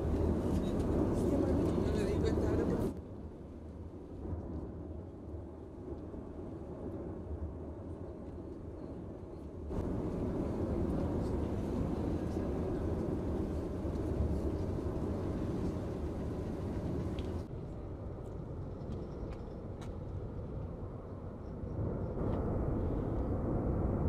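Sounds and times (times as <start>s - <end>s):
volcano rumbling: 0.0s - 24.0s.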